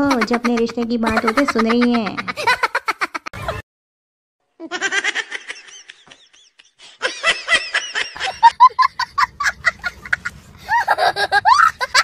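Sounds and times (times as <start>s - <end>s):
child laughing: 0.0s - 3.6s, 4.6s - 12.0s.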